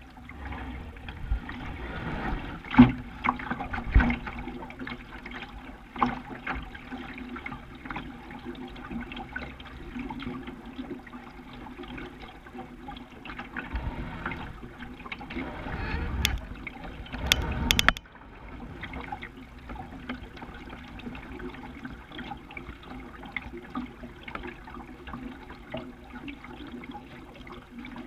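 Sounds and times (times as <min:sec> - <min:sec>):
water lapping against boat hull: 0:00.0 - 0:28.0.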